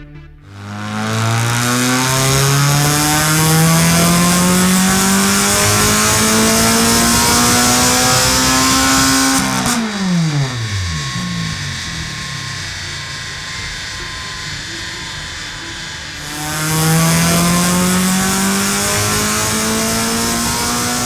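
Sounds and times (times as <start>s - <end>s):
car engine revving: 0.4s - 21.0s.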